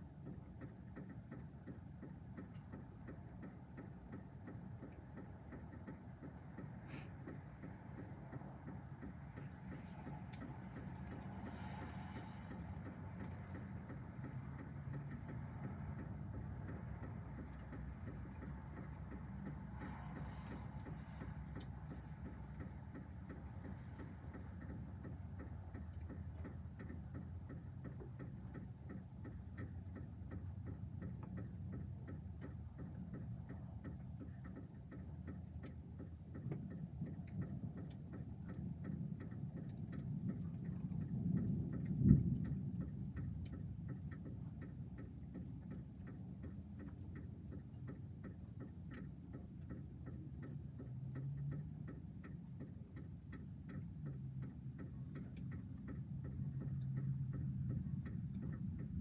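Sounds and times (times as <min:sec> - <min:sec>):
faint steady ticking: 0:00.0 - 0:59.0.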